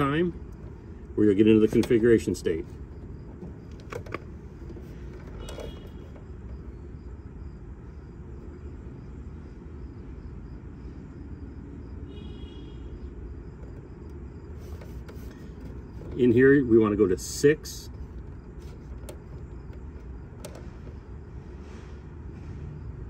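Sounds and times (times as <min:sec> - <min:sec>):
low outdoor rumble: 0:00.0 - 0:11.9, 0:13.1 - 0:23.0.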